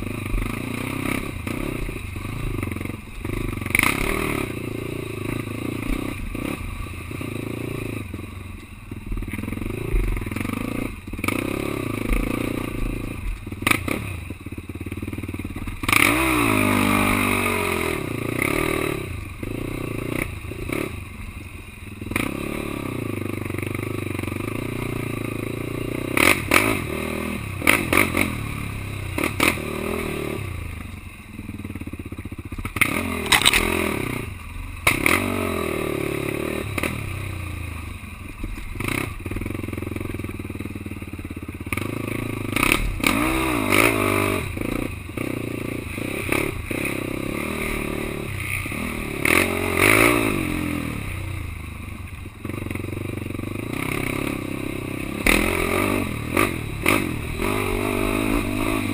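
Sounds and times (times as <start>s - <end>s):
quad engine revving: 0.0s - 8.1s, 9.2s - 14.2s, 15.8s - 21.0s, 22.1s - 30.7s, 32.6s - 37.7s, 38.8s - 40.2s, 41.6s - 51.4s, 52.4s - 58.9s.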